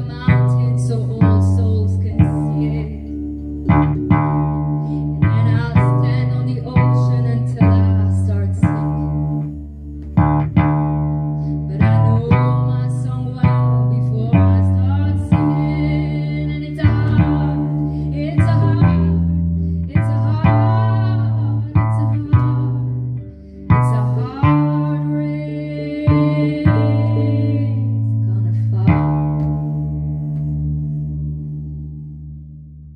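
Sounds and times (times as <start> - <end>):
plucked low ukulele notes: 0.0 - 32.9.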